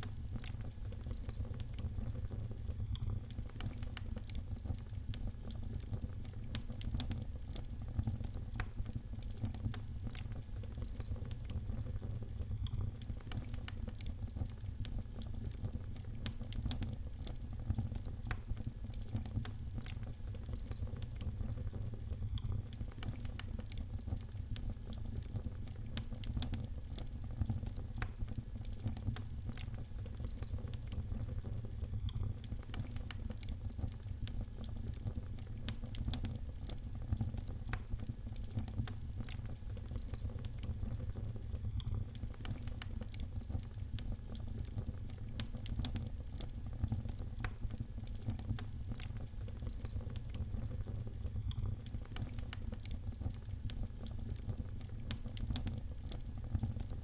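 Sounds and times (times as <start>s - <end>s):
low fire rumble: 0.0s - 57.0s
fire crackling: 0.1s - 57.0s.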